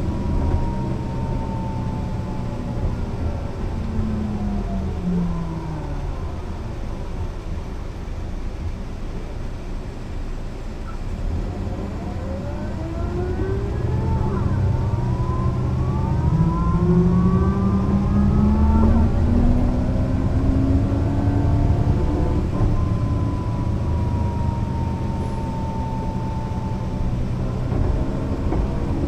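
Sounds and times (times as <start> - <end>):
bus engine pulling away: 0.0 - 29.0.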